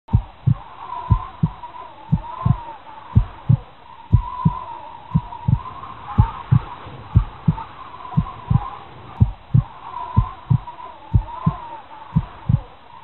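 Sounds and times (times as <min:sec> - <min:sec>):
heartbeat thumps: 0:00.0 - 0:12.7.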